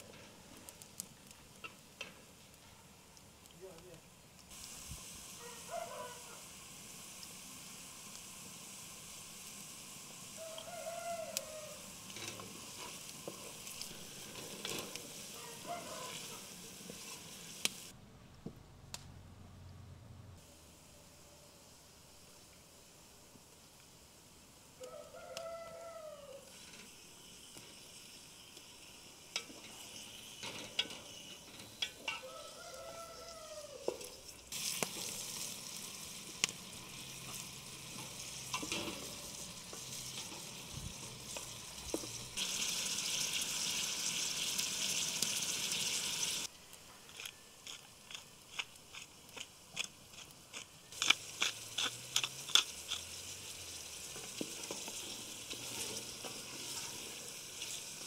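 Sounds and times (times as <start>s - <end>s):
meat and onions sizzling in oil: 0.0s - 18.0s, 20.4s - 58.0s.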